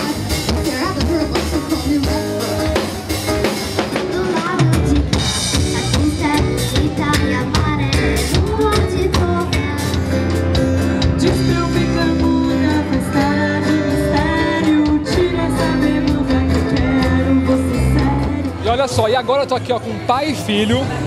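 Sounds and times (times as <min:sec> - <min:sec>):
woman singing: 0:00.0 - 0:03.1, 0:03.8 - 0:18.6
drum kit beat: 0:00.0 - 0:19.3
bass: 0:00.0 - 0:21.0.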